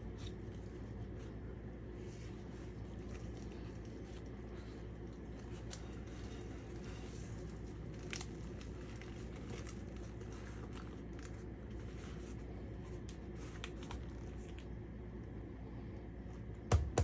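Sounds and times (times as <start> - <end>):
faint crinkling: 0.0 - 15.3
low room hum: 0.0 - 17.0.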